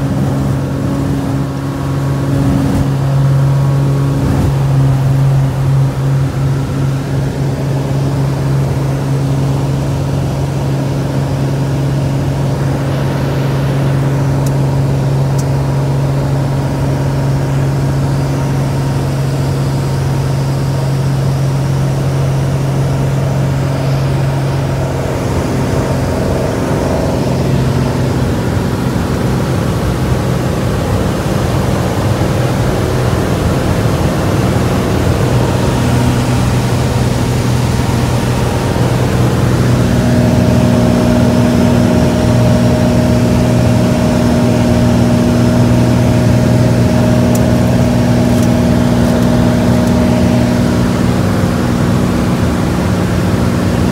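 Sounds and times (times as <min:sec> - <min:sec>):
aircraft piston engine running: 0:00.0 - 0:53.9.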